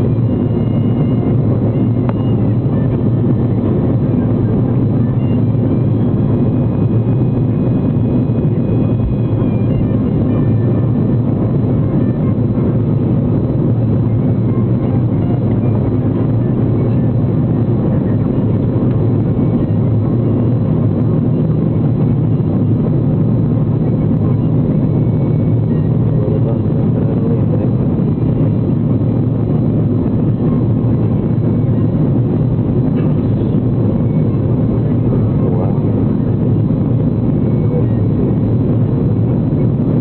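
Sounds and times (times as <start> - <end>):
jet cabin low rumble: 0.0 - 40.0.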